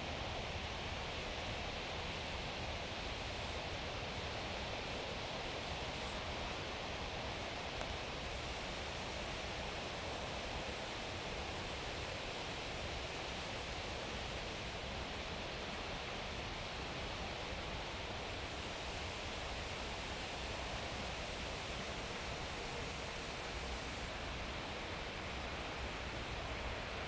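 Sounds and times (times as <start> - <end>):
even hiss: 0.0 - 27.0.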